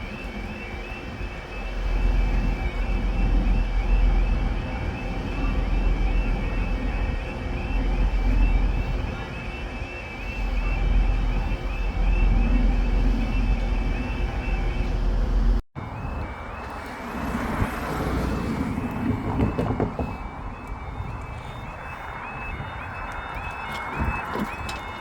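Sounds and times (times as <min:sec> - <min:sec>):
heavy low rumble: 0:00.0 - 0:23.3
level crossing alarm: 0:00.0 - 0:25.0.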